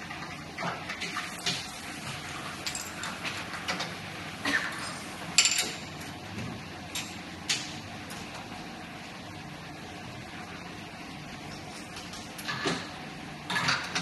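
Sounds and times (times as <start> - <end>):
workshop hum: 0.0 - 14.0.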